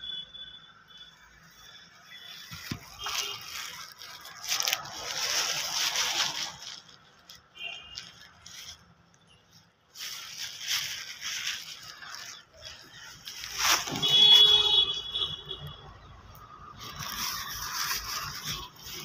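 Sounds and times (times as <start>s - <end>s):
rustling scraping noise: 1.4s - 14.7s, 15.6s - 19.0s.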